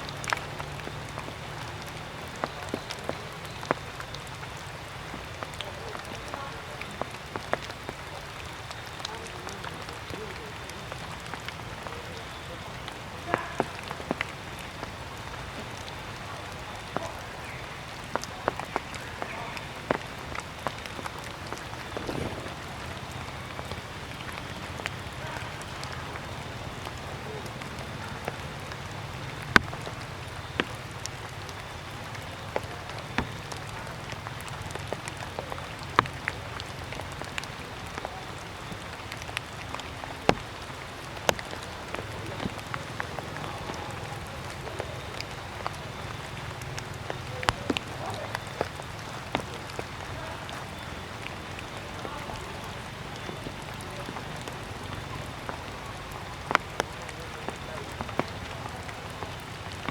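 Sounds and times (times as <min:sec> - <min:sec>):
low background noise: 0:00.0 - 0:59.9
raindrops dripping: 0:00.0 - 0:59.9
water drops hitting leaves: 0:00.0 - 0:59.9.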